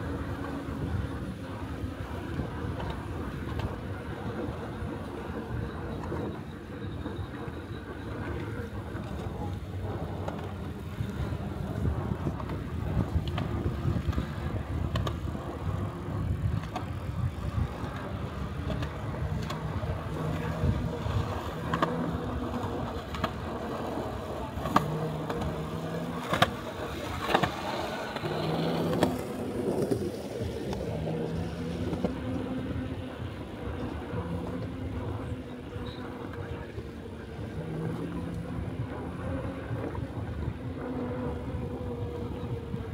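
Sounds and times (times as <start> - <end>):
tyre and wind rumble: 0.0 - 42.9.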